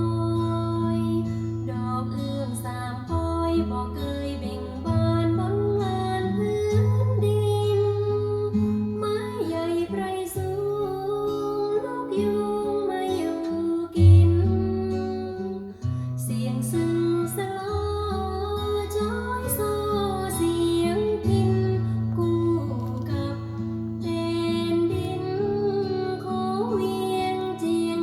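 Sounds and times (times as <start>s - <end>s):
acoustic guitar: 0.0s - 28.0s
person singing: 0.0s - 28.0s.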